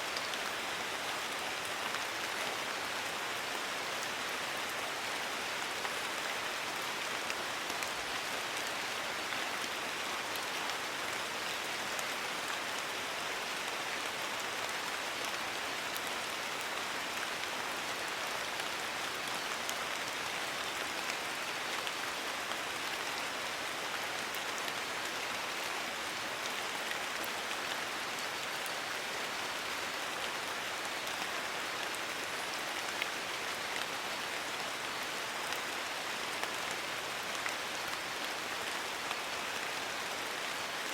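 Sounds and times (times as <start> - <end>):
rain falling on foliage: 0.0 - 40.9.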